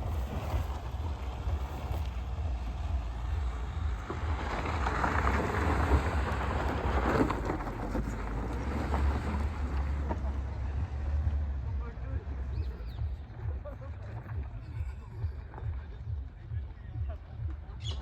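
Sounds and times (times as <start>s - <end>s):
rough rushing noise: 0.0s - 14.6s
car engine rumble: 0.0s - 18.0s.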